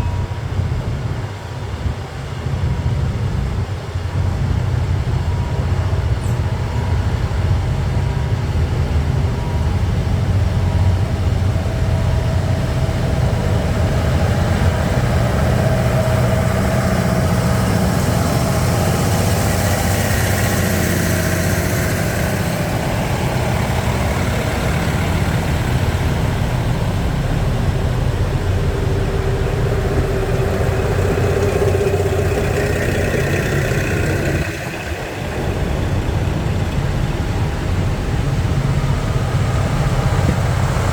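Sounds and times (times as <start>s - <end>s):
vehicle engine rumbling: 2.4s - 40.9s.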